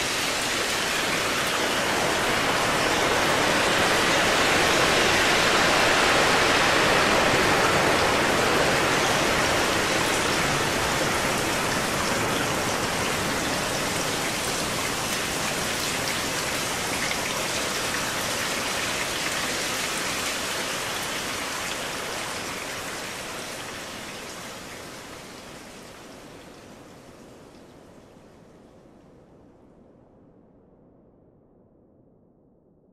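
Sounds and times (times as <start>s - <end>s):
steady hiss of falling rain: 0.0s - 29.8s.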